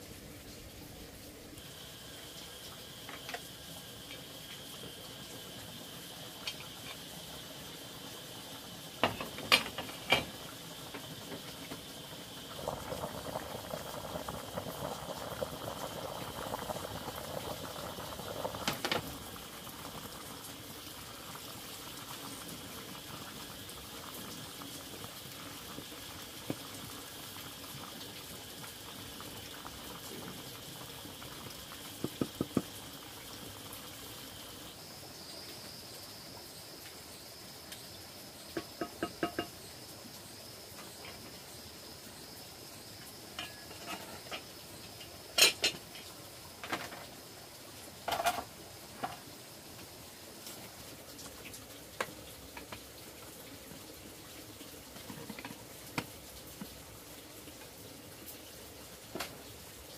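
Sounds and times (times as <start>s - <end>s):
liquid boiling in a pot: 0.0s - 59.9s.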